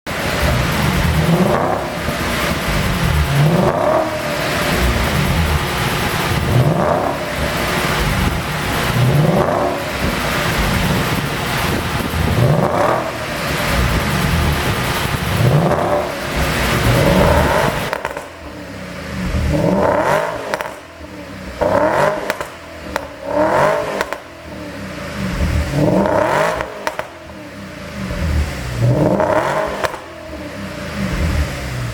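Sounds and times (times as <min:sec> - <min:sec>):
exhaust crackles and pops: 0:00.0 - 0:27.4, 0:28.0 - 0:31.9
car engine revving: 0:00.0 - 0:31.9.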